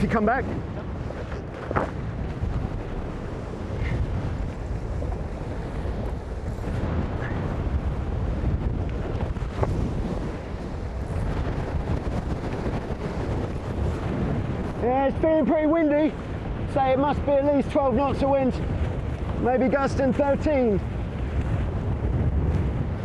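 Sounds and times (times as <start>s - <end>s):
water rushing past hulls: 0.0s - 23.0s
wind buffeting microphone: 0.0s - 23.0s.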